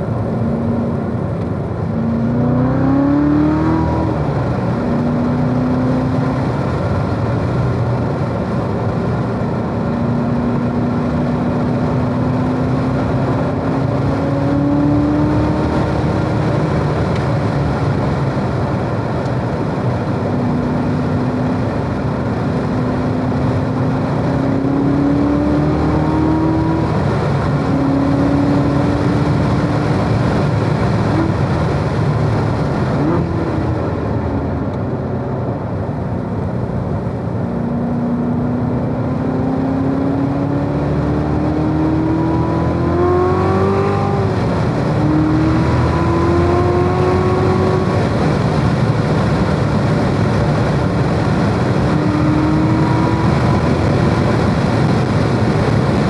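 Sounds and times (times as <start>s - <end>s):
car engine accelerating through gears: 0.0s - 56.0s
tyre and road noise: 0.0s - 56.0s.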